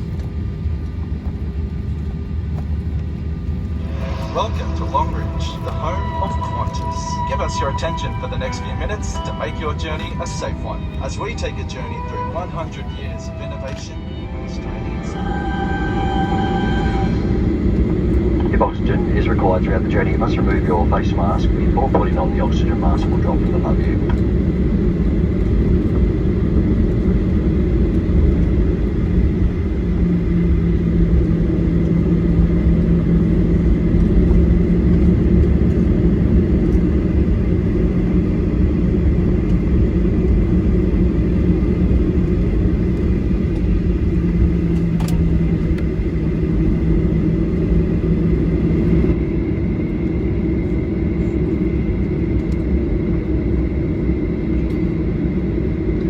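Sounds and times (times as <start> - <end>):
airplane engines rumbling in cabin: 0.0 - 56.0
steady cabin hum: 0.0 - 56.0.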